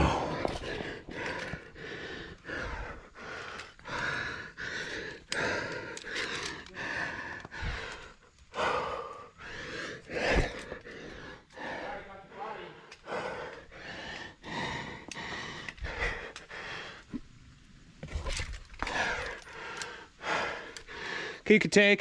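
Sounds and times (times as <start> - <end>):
hard quick gasping breaths: 0.0 - 17.2, 18.8 - 21.4.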